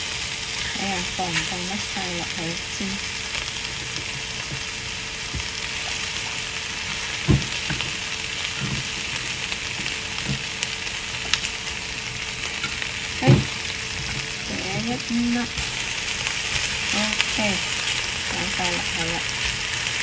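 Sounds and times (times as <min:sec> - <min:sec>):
chicken wings sizzling in a pan: 0:00.0 - 0:20.0.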